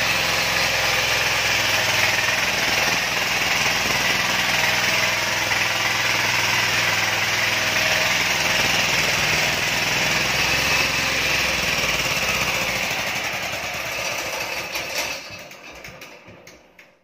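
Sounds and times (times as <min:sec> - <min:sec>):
diesel generator engine running: 0:00.0 - 0:15.4
engine knocks coasting to stop: 0:00.0 - 0:17.0.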